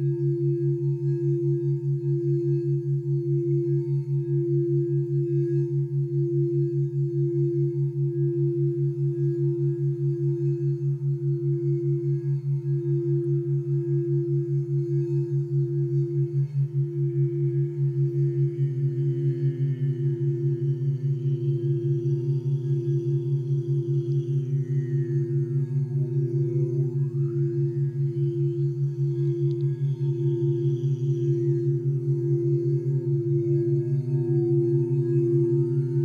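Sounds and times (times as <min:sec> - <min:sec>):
bowl tones sliding in pitch: 0:00.0 - 0:36.0
crystal singing bowl tone: 0:00.0 - 0:36.0.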